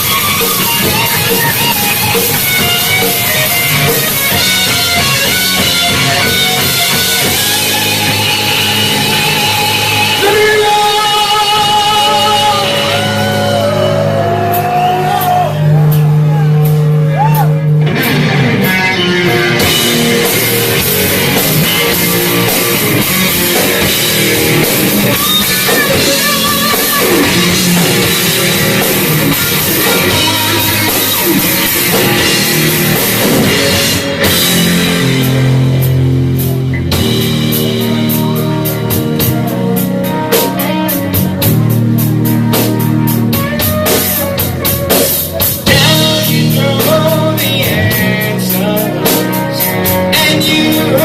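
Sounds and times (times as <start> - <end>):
fast busy drumming: 0.0 - 51.0
heavy rock band playing: 0.0 - 51.0.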